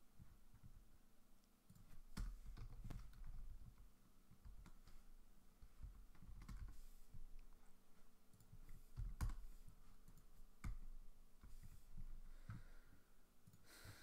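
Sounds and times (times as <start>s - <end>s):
faint keyboard typing: 0.1s - 14.0s.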